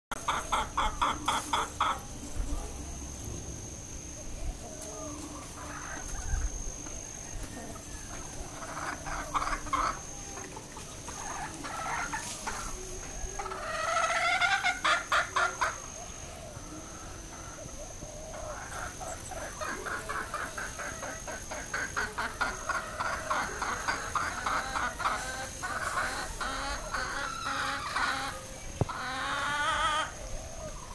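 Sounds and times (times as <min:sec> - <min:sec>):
hens clucking: 0:00.1 - 0:02.7, 0:04.1 - 0:30.9.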